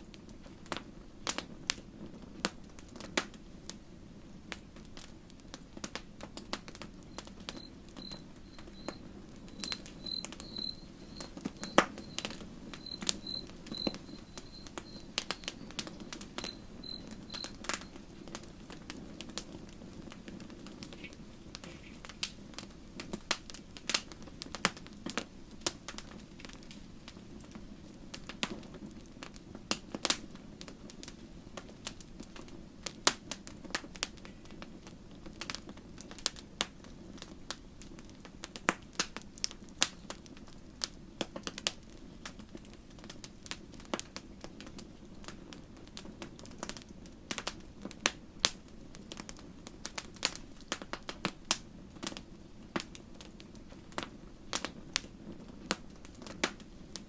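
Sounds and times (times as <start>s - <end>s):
campfire crackling and popping: 0.0s - 57.0s
low rush of flames: 0.0s - 57.0s.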